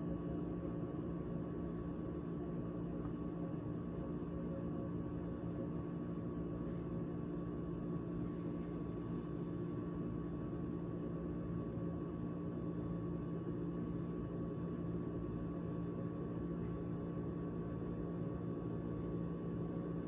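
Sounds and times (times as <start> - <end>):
refrigerator humming: 0.0 - 20.0.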